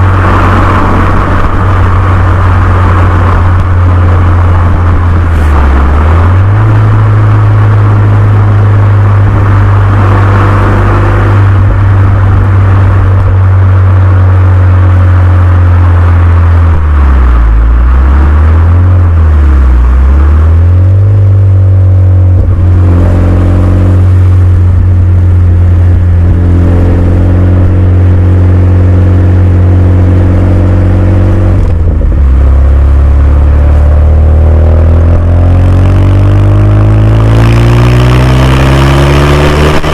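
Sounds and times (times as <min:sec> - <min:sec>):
car engine exhaust drone: 0:00.0 - 0:39.9.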